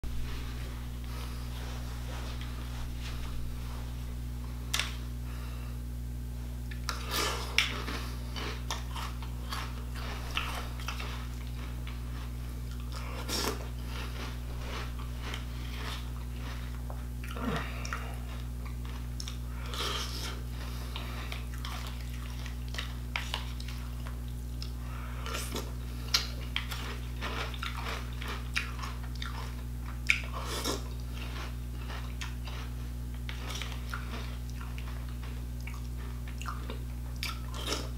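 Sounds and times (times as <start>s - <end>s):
crunching and chewing cereal: 0.1s - 3.8s, 6.6s - 37.9s.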